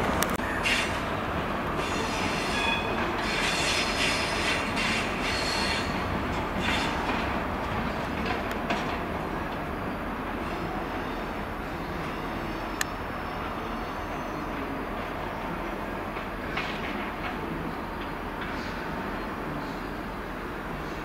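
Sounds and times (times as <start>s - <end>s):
train wheels and engine: 0.0s - 21.0s.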